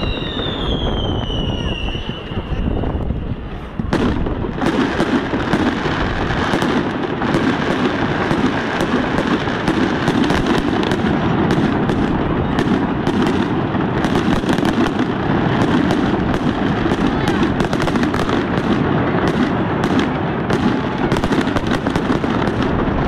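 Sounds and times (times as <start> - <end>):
fireworks bursts and crackling: 0.0 - 23.0.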